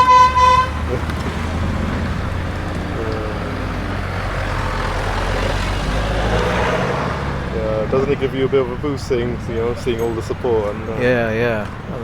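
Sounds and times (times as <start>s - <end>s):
motorcycles pulling away: 0.0s - 12.0s.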